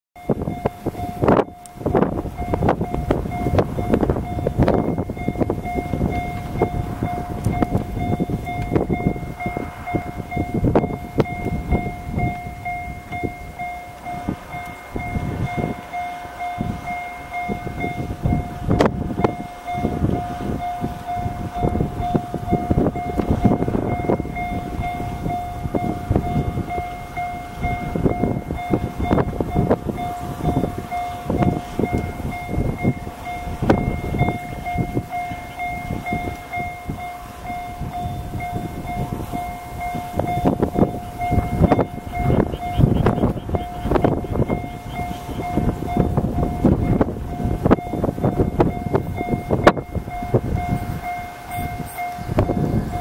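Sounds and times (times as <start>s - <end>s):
level crossing warning bell: 0.2s - 53.0s
wind buffeting microphone: 0.2s - 53.0s.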